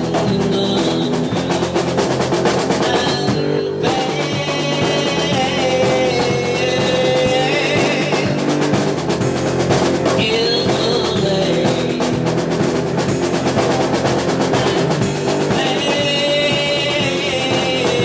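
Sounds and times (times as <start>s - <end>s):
drum strikes: 0.0s - 18.0s
electric guitar: 0.0s - 18.0s
rock band playing: 0.0s - 18.0s.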